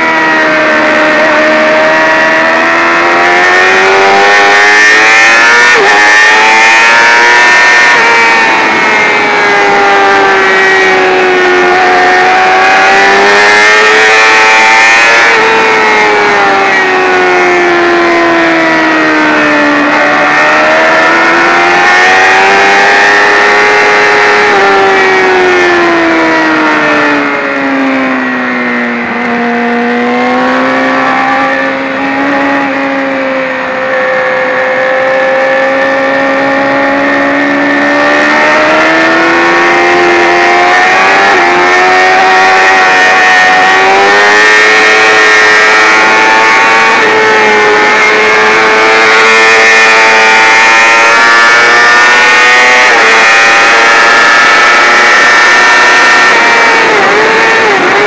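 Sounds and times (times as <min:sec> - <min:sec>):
motorcycle engine at race pace: 0:00.0 - 0:58.0.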